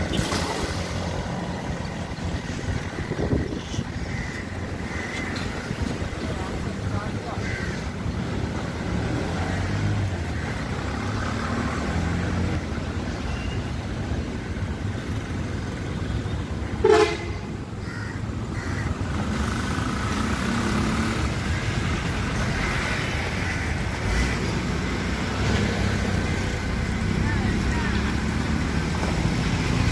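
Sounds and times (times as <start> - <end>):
road traffic: 0.0 - 29.9.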